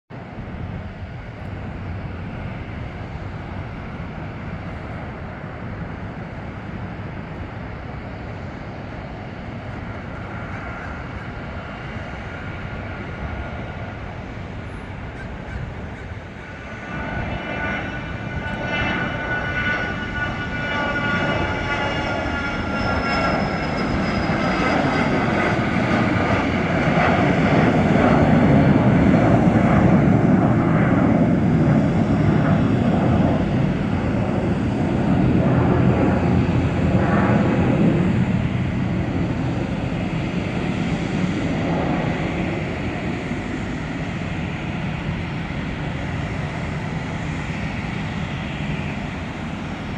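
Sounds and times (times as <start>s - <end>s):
jet engines roaring past: 0.1s - 49.9s.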